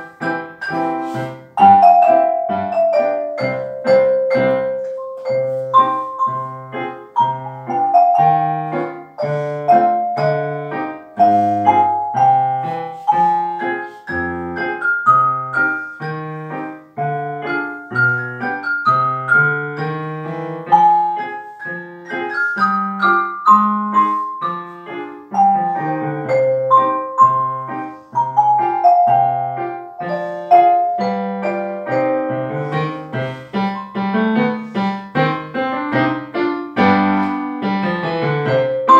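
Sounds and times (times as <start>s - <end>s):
piano chords: 0.0s - 38.9s
xylophone melody: 0.1s - 34.9s, 38.4s - 38.9s.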